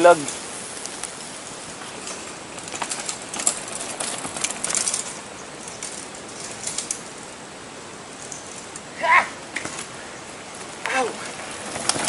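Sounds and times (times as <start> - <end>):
bike tyres crunching over dirt: 0.0 - 12.0
bike clicks and rattles: 0.1 - 7.4, 8.0 - 8.9, 9.5 - 12.0.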